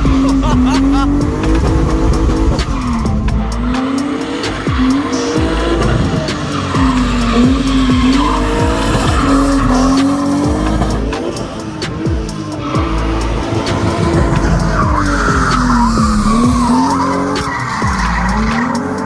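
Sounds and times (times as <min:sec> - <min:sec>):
car engine revving: 0:00.0 - 0:19.0
tyres squealing: 0:00.0 - 0:19.0.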